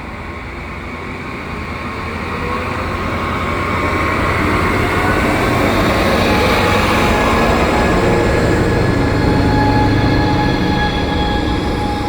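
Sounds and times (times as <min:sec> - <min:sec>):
diesel locomotive pulling out: 0:00.0 - 0:12.0.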